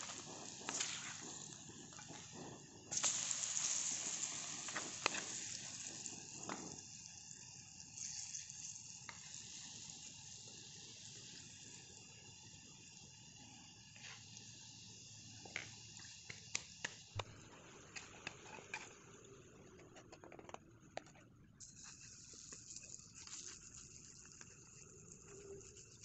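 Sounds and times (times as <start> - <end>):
batter sizzling in a frying pan: 0.0 - 19.5, 21.6 - 26.0.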